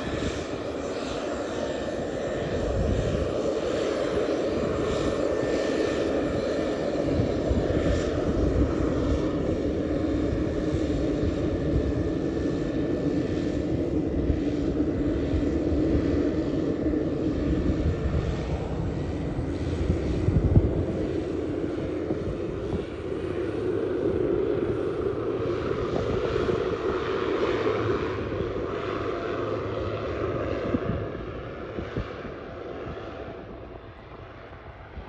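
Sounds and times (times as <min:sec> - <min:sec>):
turboprop engine droning: 0:00.0 - 0:35.0.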